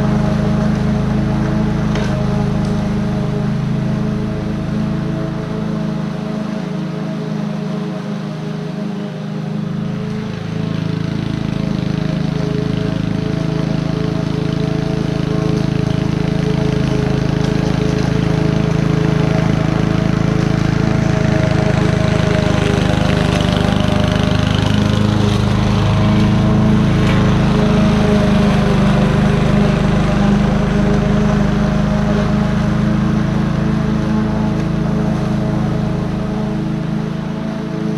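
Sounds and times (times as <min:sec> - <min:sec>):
lawn mower engine running: 0:00.0 - 0:37.9.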